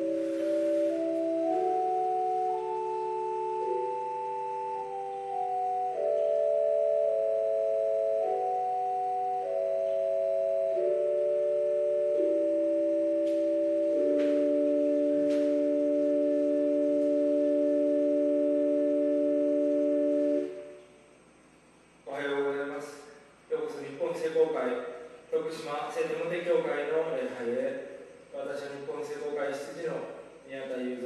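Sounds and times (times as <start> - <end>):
organ playing held chords: 0.0 - 31.0.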